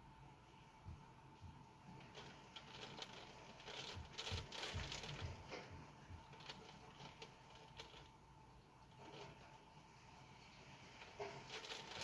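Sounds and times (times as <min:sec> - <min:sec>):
light rain pattering: 0:01.3 - 0:12.0.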